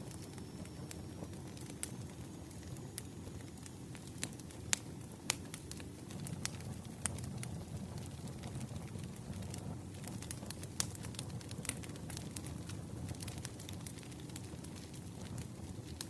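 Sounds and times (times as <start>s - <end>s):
low rumble of burning logs: 0.0s - 16.0s
wood fire crackling and popping: 0.0s - 16.0s.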